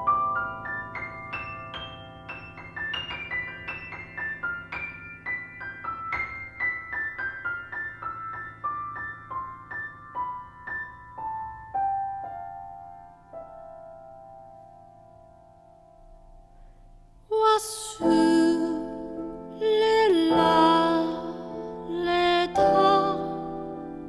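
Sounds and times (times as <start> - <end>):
slow solo piano melody: 0.0 - 17.2, 18.0 - 24.0.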